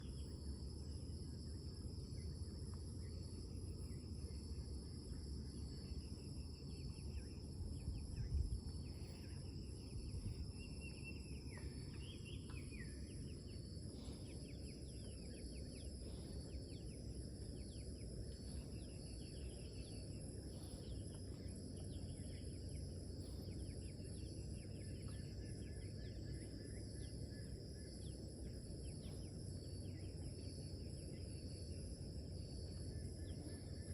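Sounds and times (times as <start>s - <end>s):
insects high-pitched tones: 0.0s - 33.9s
steady low rumble: 0.0s - 33.9s
birds chirping: 4.2s - 33.9s.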